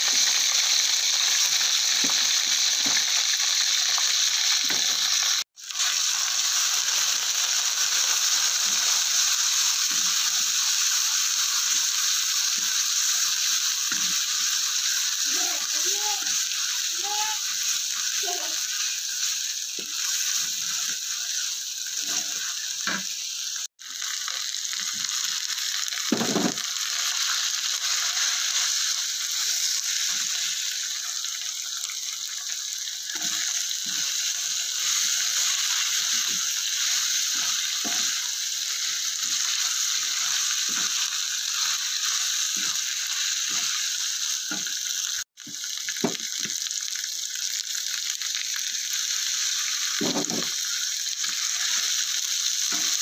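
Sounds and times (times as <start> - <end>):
paste sizzling in a wok: 0.0 - 53.0.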